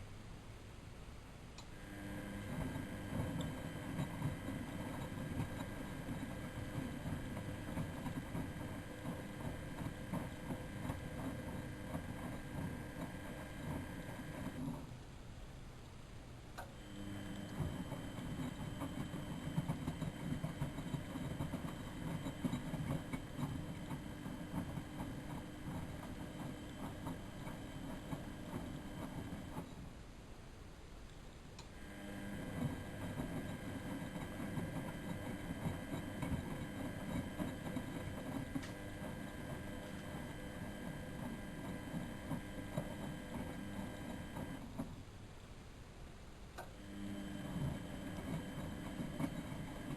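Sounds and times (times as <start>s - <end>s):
washing machine motor hum: 1.6s - 15.4s, 16.3s - 30.2s, 31.6s - 45.1s, 46.6s - 49.9s.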